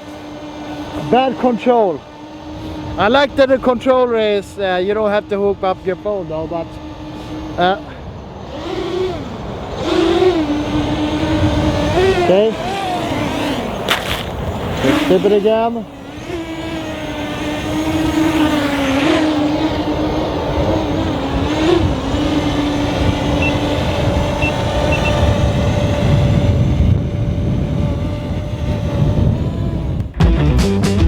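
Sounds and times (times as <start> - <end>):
drone propellers whining: 0.0 - 30.2.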